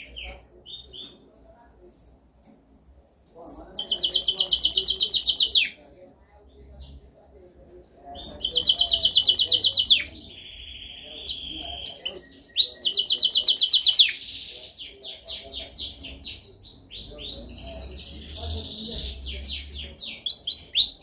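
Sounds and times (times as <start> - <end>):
canary singing trills: 0.0 - 1.2, 3.1 - 5.8, 7.8 - 21.0.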